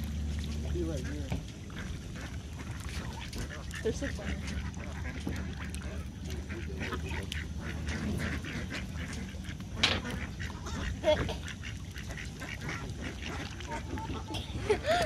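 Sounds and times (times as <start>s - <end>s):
low steady rumble: 0.0s - 15.0s
ducks quacking: 0.2s - 15.0s.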